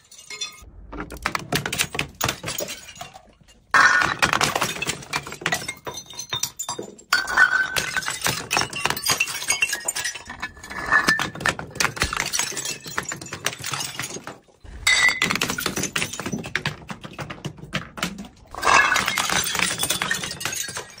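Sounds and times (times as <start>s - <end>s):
glass shards clattering down steps: 0.0s - 0.7s, 1.3s - 21.0s
glass bottles smashing: 0.0s - 21.0s.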